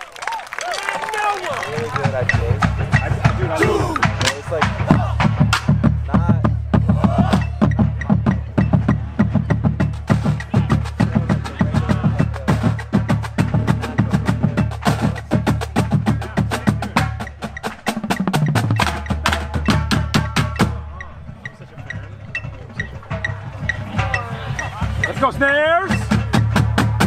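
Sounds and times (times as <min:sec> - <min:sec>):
marching drumline: 0:00.6 - 0:27.0
run down bass drums: 0:00.6 - 0:27.0.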